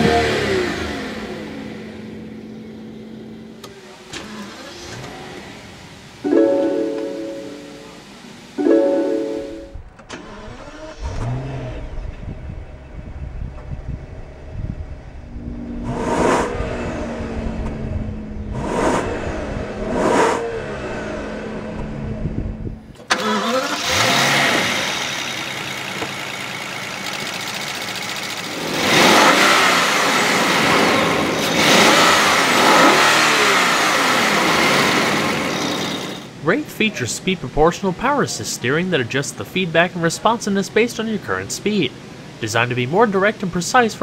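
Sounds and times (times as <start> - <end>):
car engine idling and revving: 0.0 - 6.2, 9.8 - 44.0.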